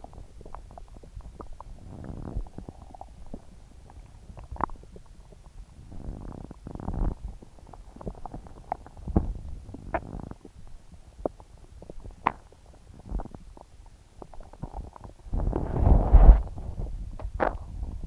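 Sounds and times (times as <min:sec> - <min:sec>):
stomach gurgling and growling: 0:00.0 - 0:18.0
stomach squeaks: 0:00.0 - 0:18.0.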